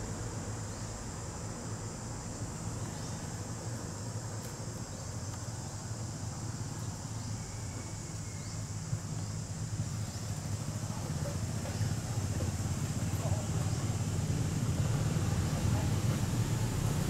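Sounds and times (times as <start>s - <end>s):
insects droning: 0.0s - 17.0s
low steady rumble: 0.0s - 17.0s.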